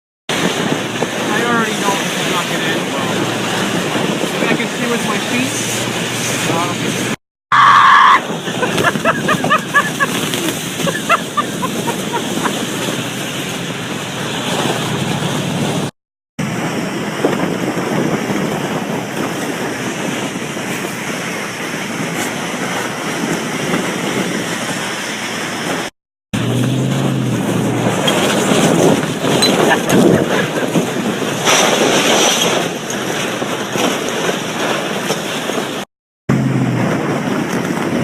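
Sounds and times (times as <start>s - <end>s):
wind rushing over microphone: 0.3s - 7.2s, 7.9s - 38.0s.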